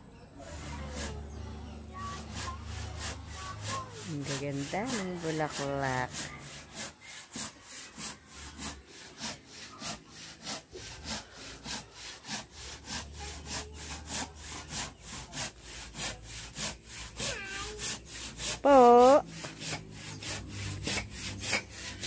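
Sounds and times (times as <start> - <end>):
hand saw cutting wood: 0.4 - 22.0.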